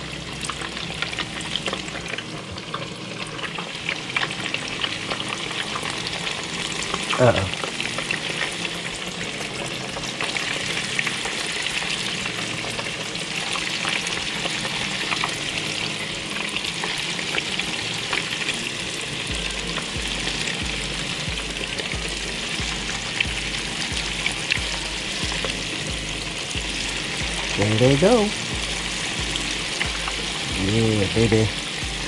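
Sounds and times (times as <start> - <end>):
fish deep-frying in oil: 0.0 - 32.0.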